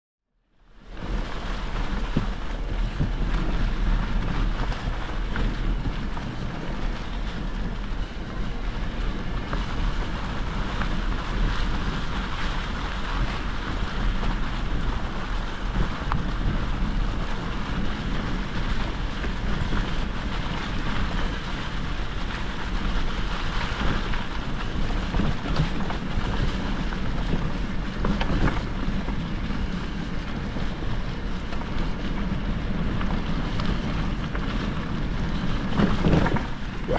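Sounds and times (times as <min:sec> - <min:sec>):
deep low rumble: 0:00.4 - 0:36.9
wind buffeting microphone: 0:00.7 - 0:36.9.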